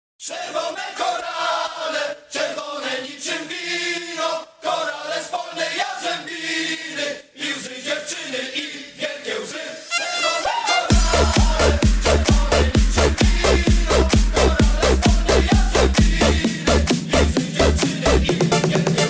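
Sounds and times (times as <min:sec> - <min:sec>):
chanted choir-like vocals: 0:00.2 - 0:19.0.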